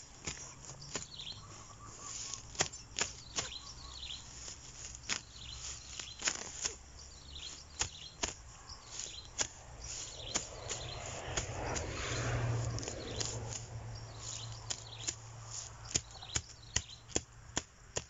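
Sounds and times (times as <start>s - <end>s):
machete chopping grass: 0.0s - 18.0s.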